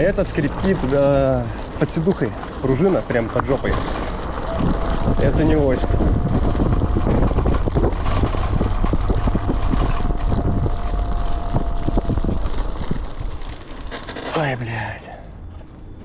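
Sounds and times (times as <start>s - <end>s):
wind buffeting microphone: 0.0s - 14.3s
creaks and knocks of bike: 0.0s - 16.0s
thin steady whine: 0.0s - 16.0s.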